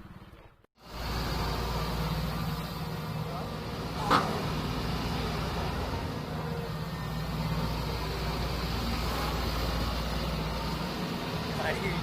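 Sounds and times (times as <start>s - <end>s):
heavy machine engine drone: 0.8s - 12.0s.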